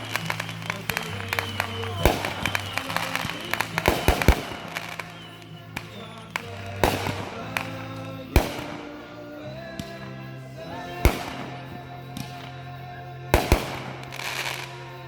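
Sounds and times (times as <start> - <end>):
country song on loudspeakers: 0.0 - 15.0
fireworks bangs: 0.0 - 15.0.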